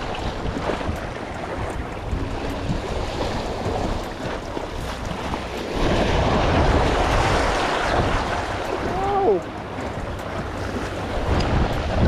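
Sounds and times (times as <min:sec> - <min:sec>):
surf washing against jetty: 0:00.0 - 0:12.0
wind buffeting microphone: 0:00.0 - 0:12.0.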